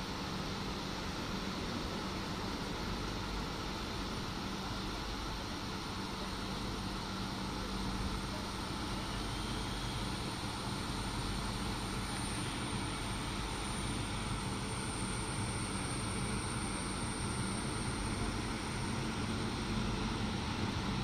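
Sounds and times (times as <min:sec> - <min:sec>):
electric locomotive drone and hum: 0:00.0 - 0:21.0.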